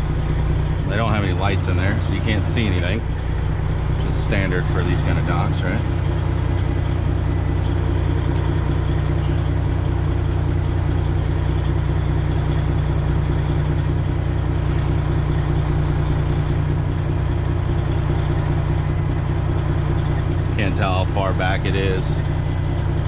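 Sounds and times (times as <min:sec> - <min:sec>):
truck diesel engine idling: 0:00.0 - 0:23.0.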